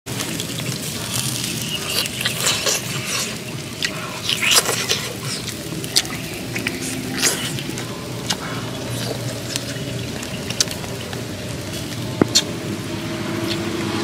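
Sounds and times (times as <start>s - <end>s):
wet chewing clicks and smacks: 0.4s - 12.6s, 13.4s - 14.0s.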